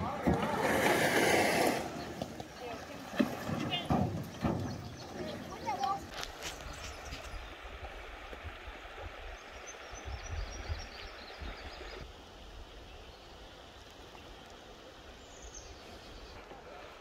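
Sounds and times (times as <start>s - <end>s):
moving water: 0.0s - 17.0s.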